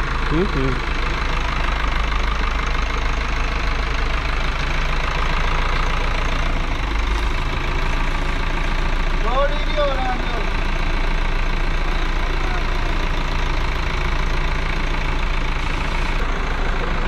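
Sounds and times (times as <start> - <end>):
forklift engine idling: 0.0 - 17.0.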